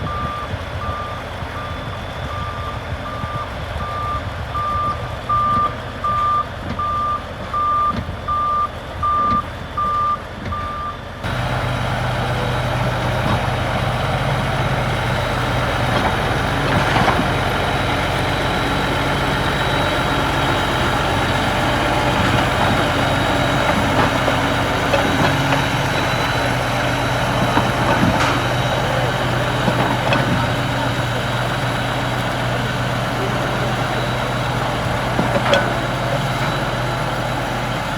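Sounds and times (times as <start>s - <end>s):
diesel engine running: 0.0s - 37.9s
reversing alarm beeping: 0.0s - 37.9s.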